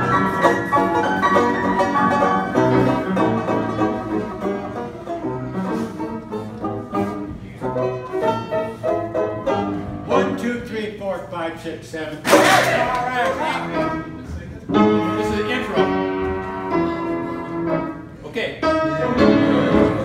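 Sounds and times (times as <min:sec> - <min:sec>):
upright piano: 0:00.0 - 0:11.2, 0:12.2 - 0:20.0.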